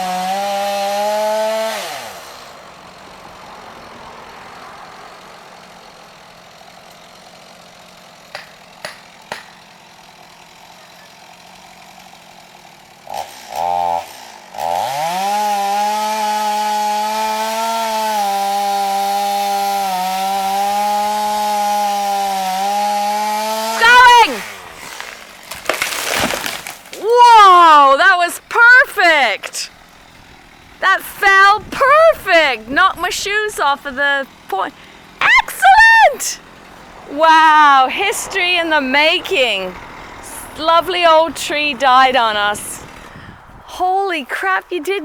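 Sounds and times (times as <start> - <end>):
chainsaw cutting tree trunk: 0.0 - 45.0.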